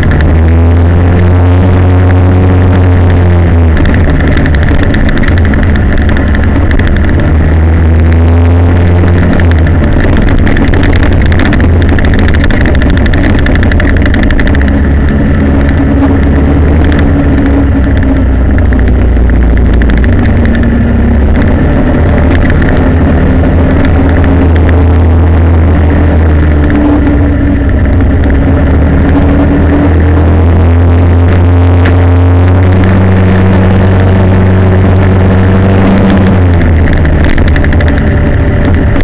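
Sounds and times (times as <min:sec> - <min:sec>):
road and wind noise: 0:00.0 - 0:39.0
vehicle engine running: 0:00.0 - 0:39.0.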